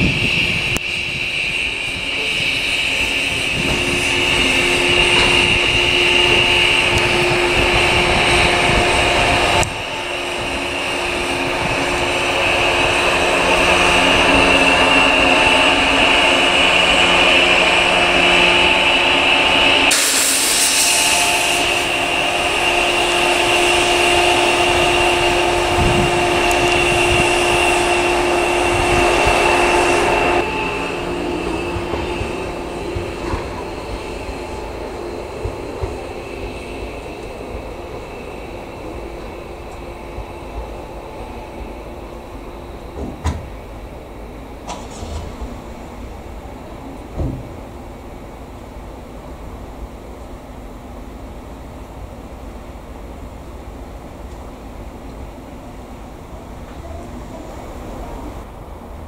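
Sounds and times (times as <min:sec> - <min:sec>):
electric train whine and hum: 0:00.0 - 0:59.0.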